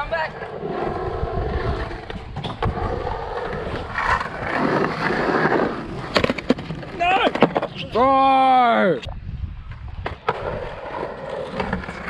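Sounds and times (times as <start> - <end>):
skateboard wheels rolling on concrete: 0.0 - 8.4, 9.1 - 12.0.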